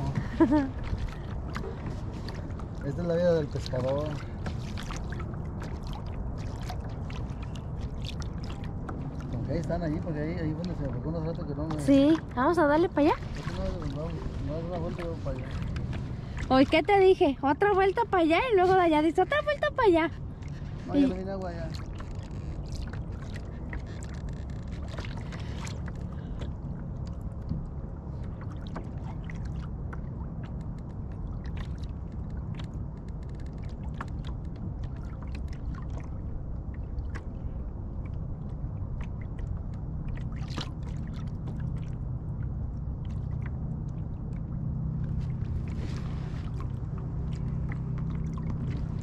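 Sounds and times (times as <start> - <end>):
boat motor hum: 0.0 - 49.0
water splashing against hull: 0.0 - 49.0.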